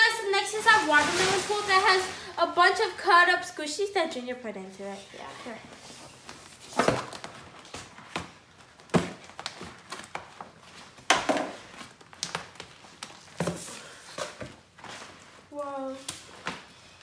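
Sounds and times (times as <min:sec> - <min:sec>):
plastic rustling: 0:00.0 - 0:04.0, 0:05.0 - 0:17.0.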